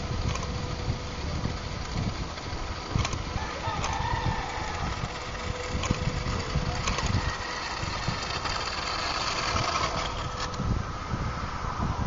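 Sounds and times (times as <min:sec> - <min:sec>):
plastic wheels grinding on asphalt: 0:00.0 - 0:10.8
small electric motor whirring: 0:00.0 - 0:11.3.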